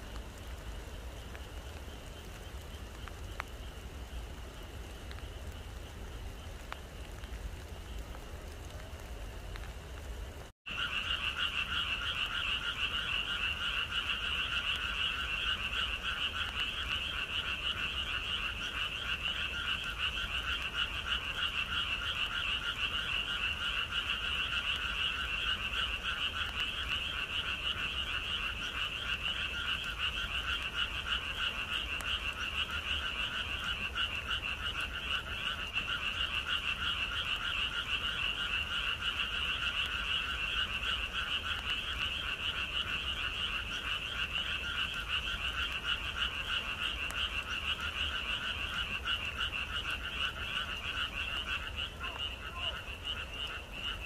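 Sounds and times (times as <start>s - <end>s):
chorus of frogs calling: 10.7s - 54.0s.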